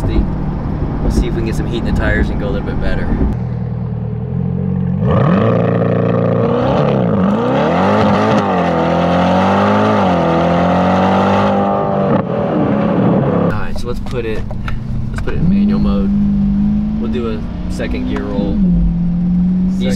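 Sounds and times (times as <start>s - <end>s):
car engine accelerating hard: 0.0s - 13.5s, 14.8s - 19.9s.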